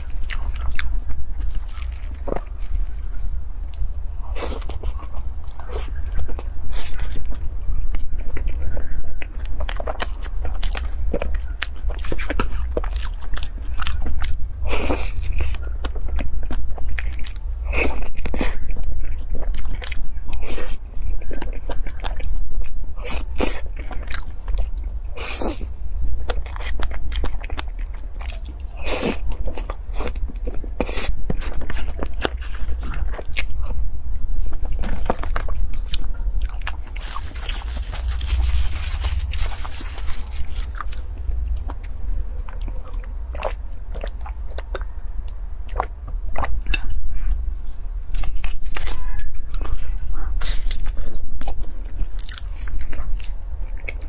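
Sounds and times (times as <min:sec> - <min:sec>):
steady low hum: 0:00.0 - 0:54.0
wet chewing: 0:00.0 - 0:54.0.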